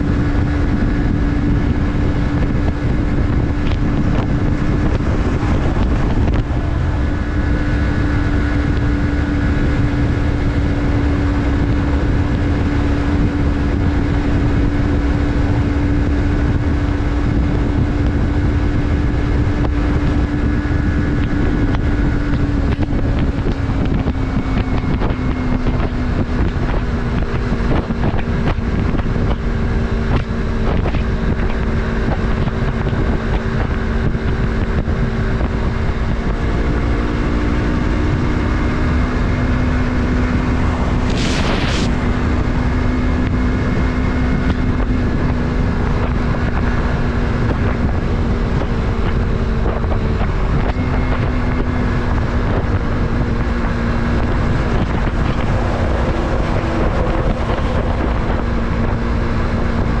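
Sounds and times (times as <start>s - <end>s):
motorcycle engine cruising: 0.0s - 60.0s
wind noise on microphone: 0.0s - 60.0s.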